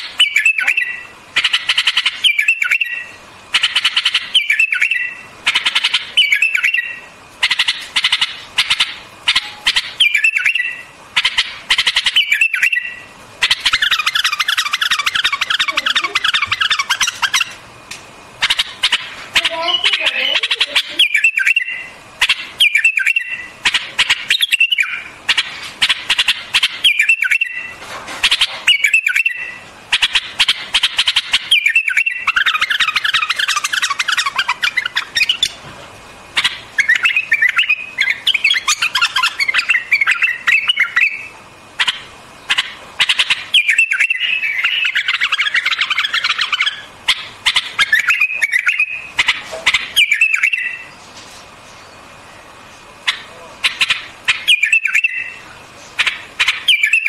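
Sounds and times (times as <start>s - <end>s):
bird rapid chattering notes: 0.0s - 17.6s, 18.4s - 35.6s, 36.4s - 50.9s, 53.0s - 55.4s
bird singing whistled phrases: 0.2s - 17.5s, 18.4s - 27.7s, 28.4s - 35.6s, 36.4s - 50.9s, 53.1s - 55.4s, 56.0s - 57.0s.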